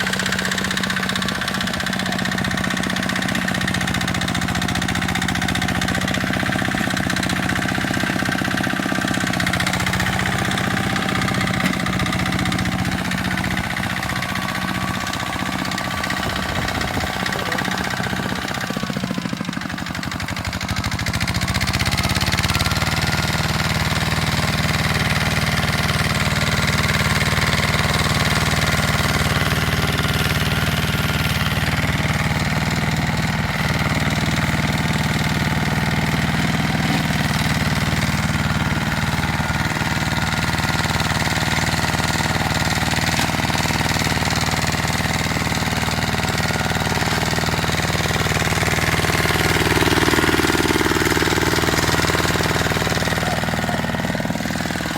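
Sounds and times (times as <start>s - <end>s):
tractor engine running under load: 0.0s - 54.9s.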